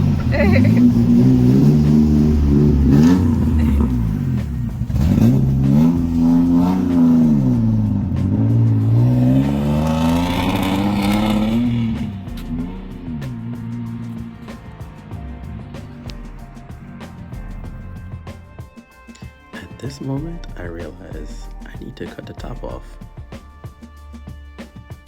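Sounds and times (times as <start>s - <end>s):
car engine revving: 0.0s - 24.3s.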